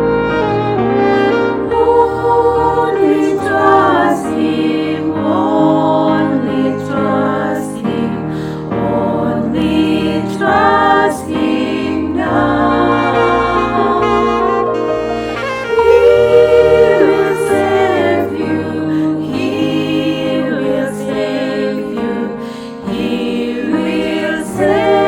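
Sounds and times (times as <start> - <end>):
vocal group singing a hymn: 1.0 - 14.8, 15.4 - 25.0.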